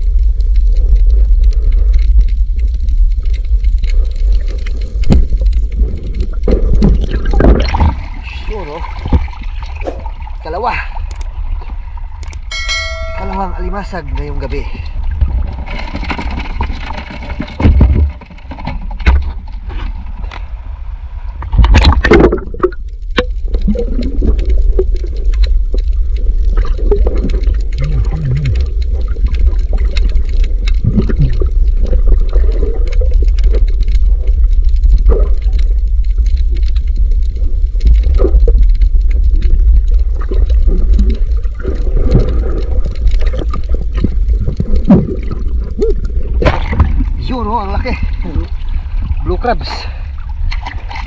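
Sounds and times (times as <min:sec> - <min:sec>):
muffled underwater rumble: 0:00.0 - 0:51.0
underwater bubbling: 0:00.0 - 0:51.0
water splashing: 0:03.5 - 0:20.3, 0:21.4 - 0:36.8, 0:37.4 - 0:51.0.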